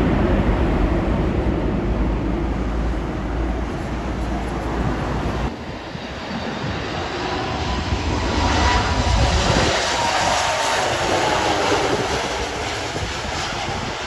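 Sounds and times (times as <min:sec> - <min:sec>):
airliner engines rushing: 0:00.0 - 0:14.0.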